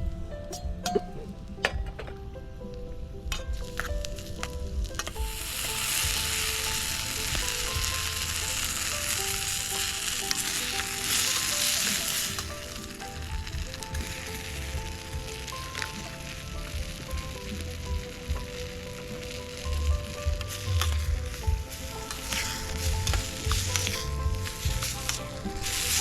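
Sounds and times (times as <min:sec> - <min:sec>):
food sizzling in a pan: 0:05.1 - 0:26.0.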